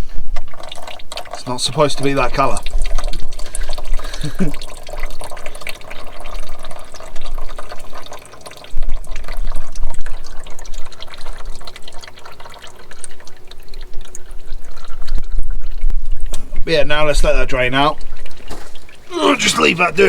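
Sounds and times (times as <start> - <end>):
oil pouring into a container: 0.0 - 20.0.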